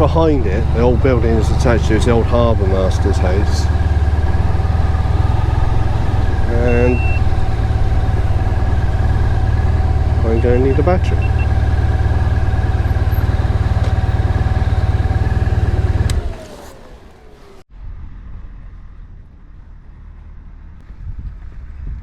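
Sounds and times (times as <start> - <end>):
quiet low rumble: 0.0 - 16.2, 17.7 - 22.0
motorcycle engine running with whine: 0.0 - 22.0.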